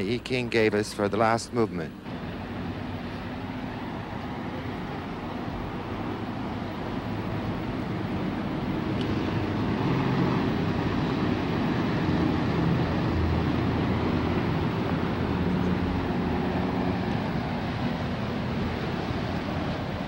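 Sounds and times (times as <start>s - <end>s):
faint engine hum: 0.0s - 20.0s
low rumble of traffic: 0.0s - 20.0s.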